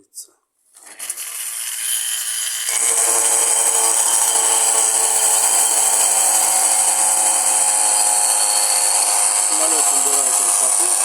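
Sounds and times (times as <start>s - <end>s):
spinning gyroscope top whirring: 0.8s - 11.0s.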